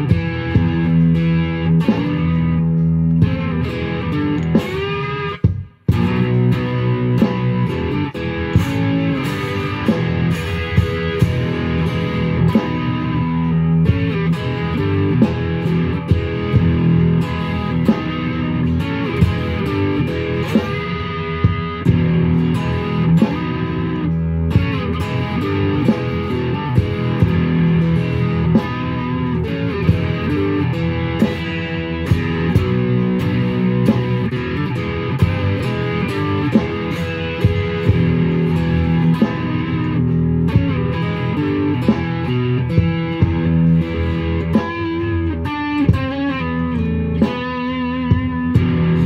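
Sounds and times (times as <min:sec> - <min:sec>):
electric guitar playing: 0:00.0 - 0:49.0.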